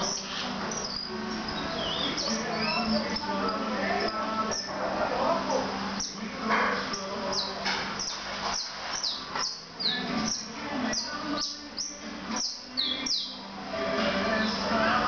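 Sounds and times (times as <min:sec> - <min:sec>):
canary calling: 0:00.0 - 0:15.0.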